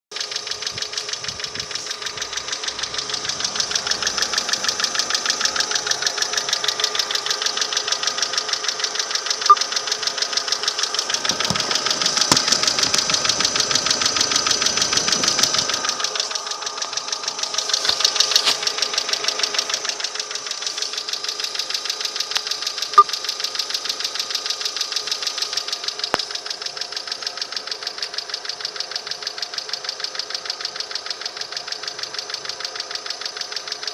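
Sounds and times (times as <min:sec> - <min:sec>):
engine idling with ticking knock: 0:00.1 - 0:33.9.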